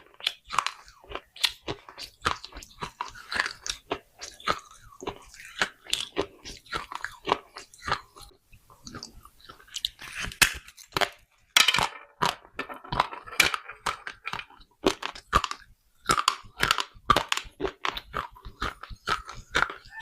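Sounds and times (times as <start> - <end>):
chewing crunchy clay: 0.0 - 11.2, 12.2 - 20.0.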